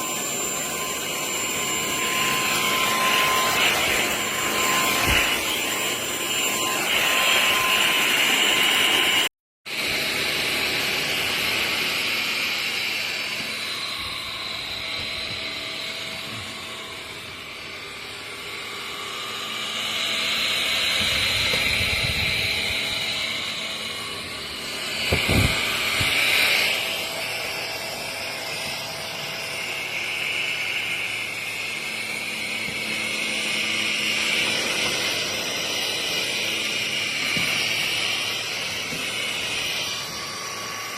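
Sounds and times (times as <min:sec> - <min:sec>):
stick vacuum cleaner running: 0:00.0 - 0:40.9.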